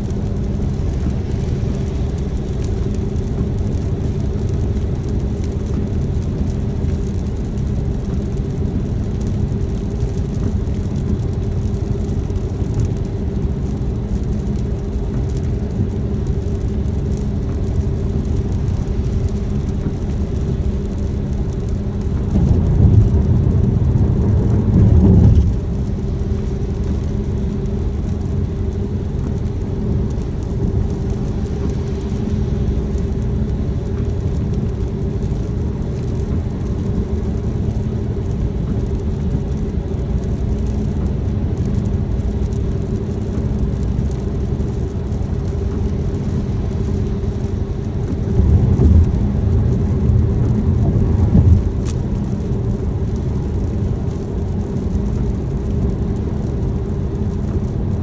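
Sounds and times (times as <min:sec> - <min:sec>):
car engine and tyre hum: 0:00.0 - 0:58.0
deep rumble: 0:00.0 - 0:58.0.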